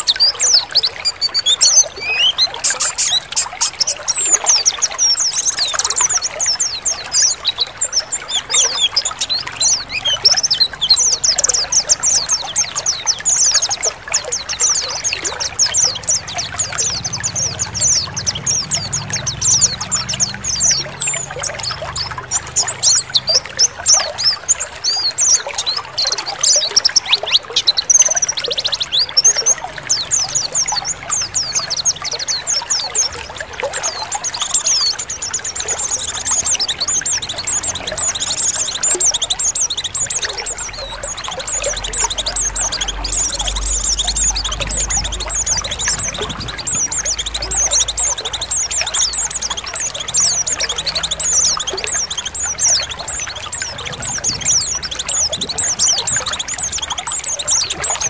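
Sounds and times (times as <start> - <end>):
birds twittering: 0.0 - 58.0
running water trickling: 0.0 - 58.0.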